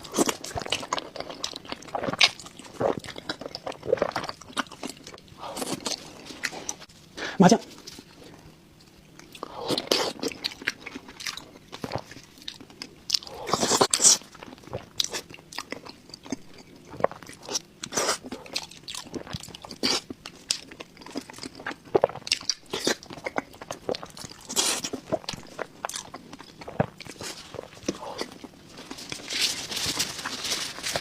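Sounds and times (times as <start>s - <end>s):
person chewing crunchy food: 0.0s - 6.9s, 7.7s - 31.0s.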